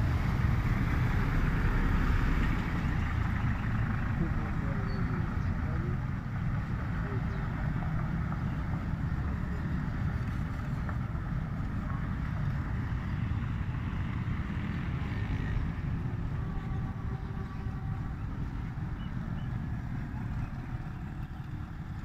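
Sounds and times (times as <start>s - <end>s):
faint motorcycle engine: 0.0s - 22.0s
road traffic rumble: 0.0s - 22.0s.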